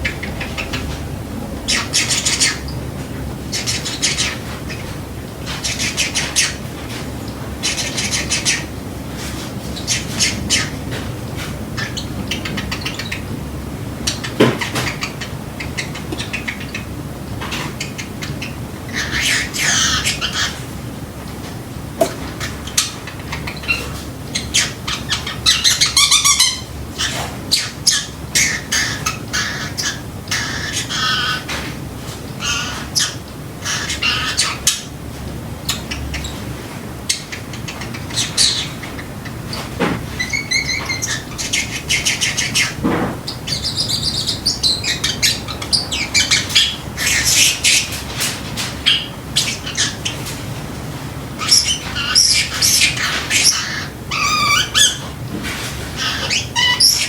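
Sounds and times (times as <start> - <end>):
parrot chirping and squawking: 0.0 - 31.7, 32.4 - 35.0, 35.6 - 57.0.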